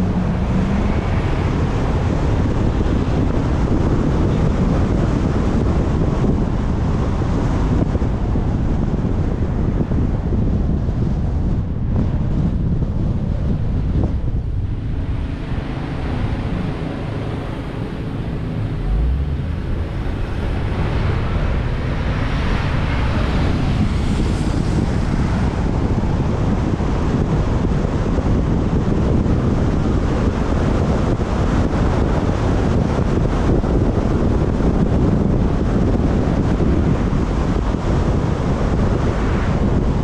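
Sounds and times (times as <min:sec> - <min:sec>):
low road rumble: 0:00.0 - 0:40.0
wind over microphone: 0:00.0 - 0:40.0.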